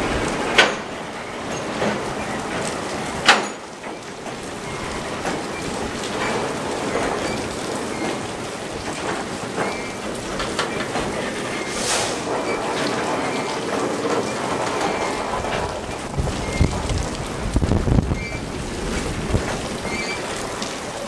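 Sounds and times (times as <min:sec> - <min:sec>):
light rain: 0:00.0 - 0:21.0
train wheels rumbling on rail: 0:00.0 - 0:21.0.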